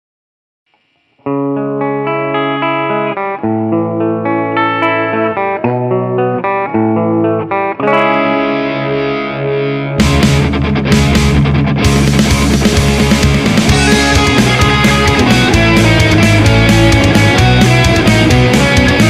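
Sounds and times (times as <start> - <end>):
electric guitar chords ringing: 0.8 - 19.0.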